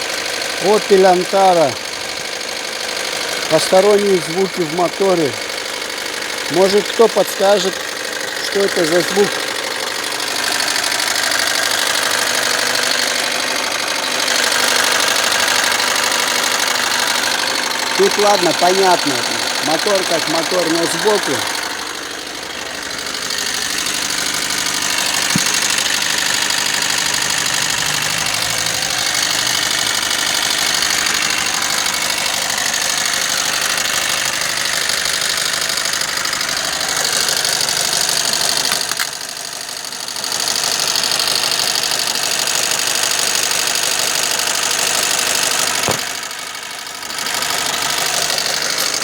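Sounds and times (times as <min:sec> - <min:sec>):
car engine running: 0:00.0 - 0:49.0
fast even engine clatter: 0:00.0 - 0:49.0.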